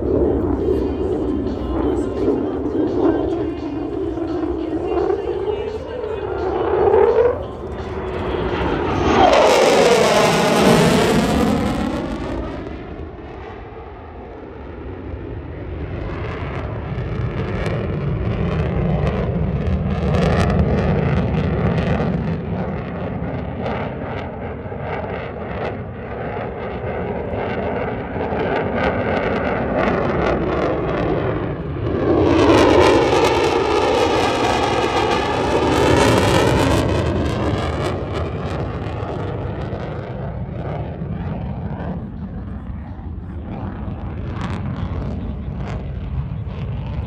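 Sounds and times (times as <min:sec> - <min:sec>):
jet engine rumble and whine: 0:00.0 - 0:47.0.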